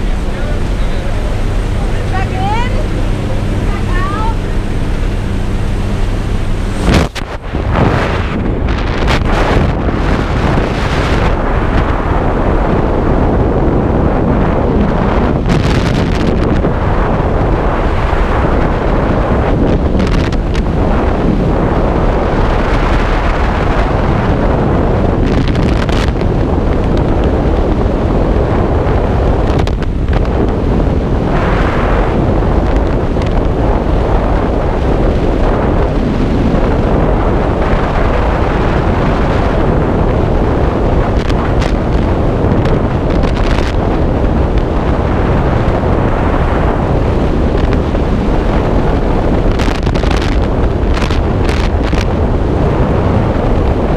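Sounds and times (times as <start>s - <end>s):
plane engine droning: 0.0s - 53.9s
wind buffeting microphone: 0.0s - 53.9s.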